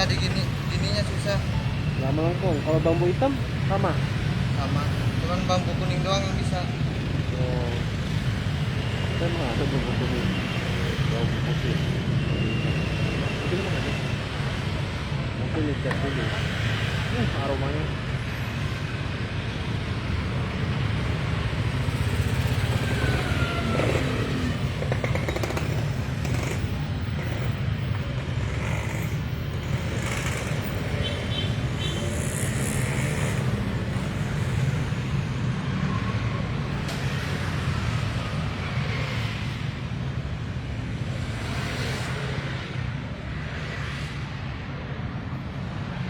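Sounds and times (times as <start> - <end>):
street traffic: 0.0 - 46.0.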